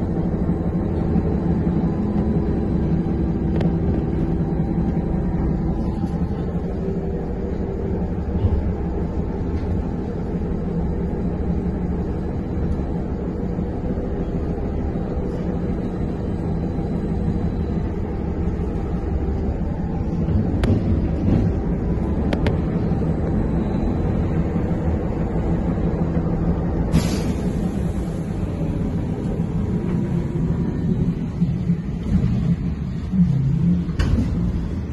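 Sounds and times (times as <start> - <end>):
bus rumble and tyres on road: 0.0 - 34.9.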